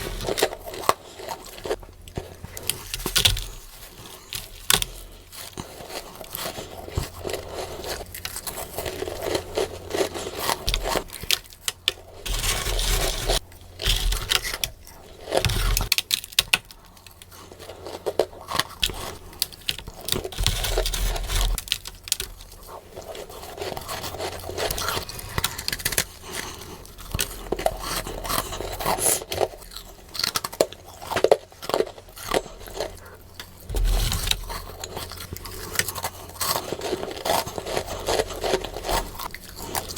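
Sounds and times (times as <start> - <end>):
frost being bitten and chewed: 0.0 - 39.9.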